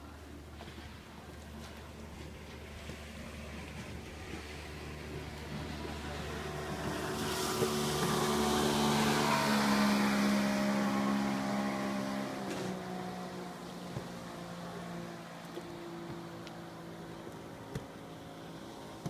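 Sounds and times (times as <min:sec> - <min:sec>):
motorboat engine passing: 0:00.0 - 0:19.0.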